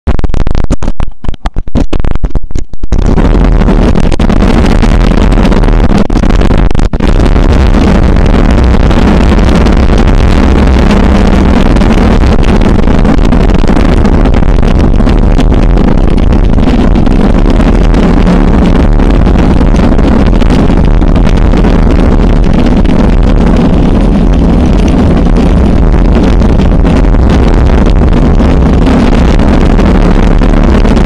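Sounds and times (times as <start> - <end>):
wind on microphone: 0.1 - 31.0.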